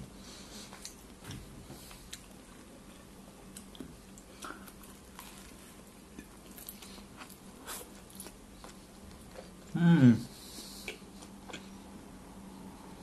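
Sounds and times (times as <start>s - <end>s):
faint steady hum: 0.0s - 13.0s
person chewing food: 0.4s - 9.8s, 10.4s - 11.8s.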